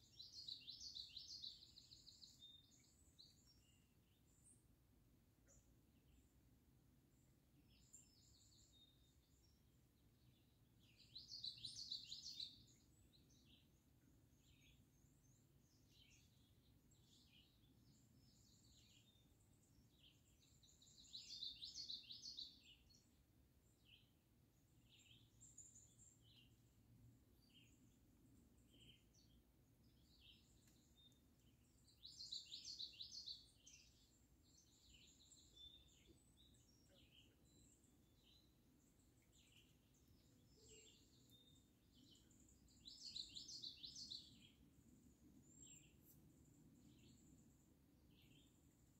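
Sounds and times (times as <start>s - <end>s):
songbird song phrase: 0.0s - 48.9s.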